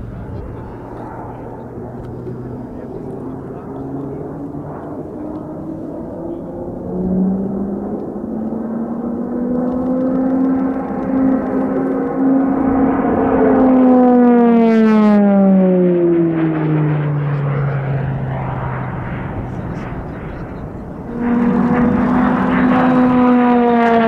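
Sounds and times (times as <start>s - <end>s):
propeller plane flying past: 0.0s - 24.0s.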